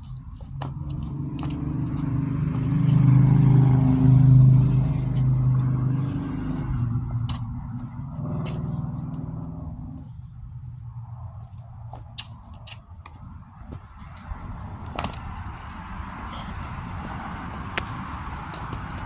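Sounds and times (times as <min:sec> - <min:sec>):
vehicle engine passing by: 0:00.6 - 0:12.5, 0:14.0 - 0:19.0.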